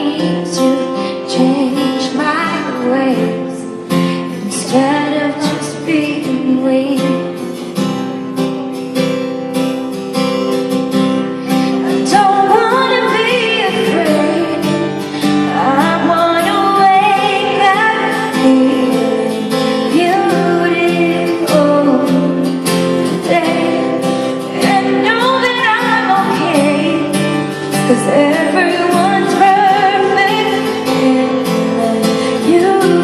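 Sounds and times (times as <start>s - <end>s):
woman singing: 0.0s - 7.8s, 11.4s - 33.0s
acoustic guitar strumming: 0.0s - 33.0s.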